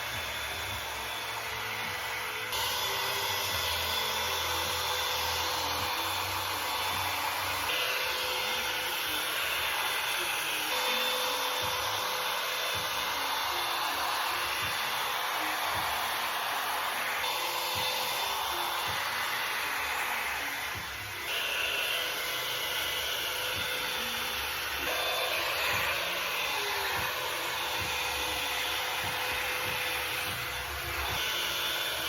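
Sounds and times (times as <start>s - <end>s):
hot-air dryer brush blowing: 0.0s - 32.0s.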